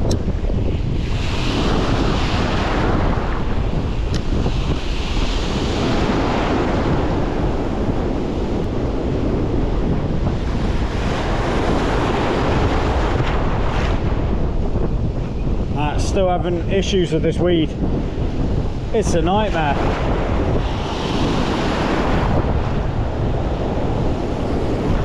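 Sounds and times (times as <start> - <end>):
wind buffeting microphone: 0.0 - 25.0
surf breaking on beach: 0.7 - 25.0.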